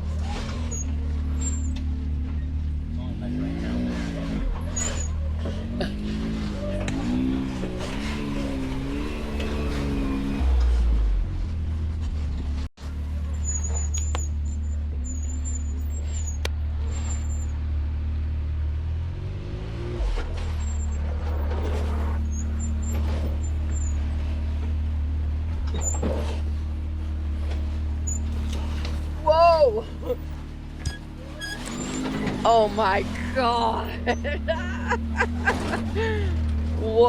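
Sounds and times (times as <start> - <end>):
off-road vehicle engine at low revs: 0.0 - 37.0.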